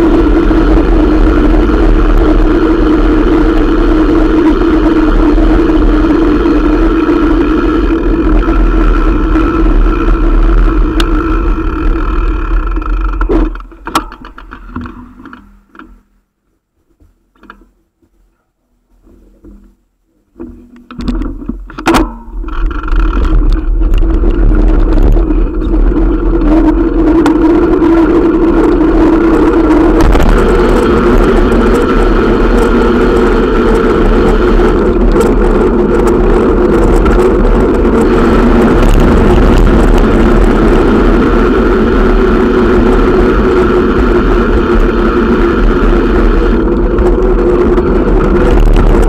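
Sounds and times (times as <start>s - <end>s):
wind and tyre rush: 0.0s - 15.4s, 22.3s - 49.0s.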